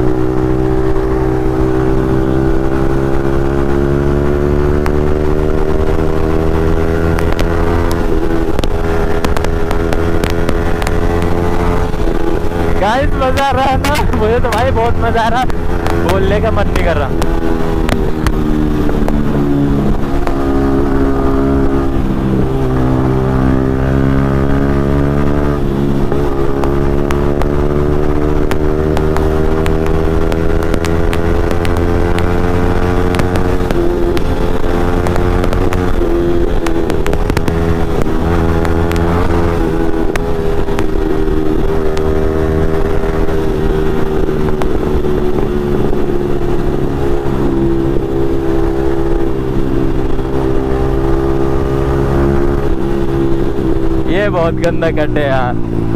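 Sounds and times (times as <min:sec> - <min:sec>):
motorcycle engine at speed: 0:00.0 - 0:55.9.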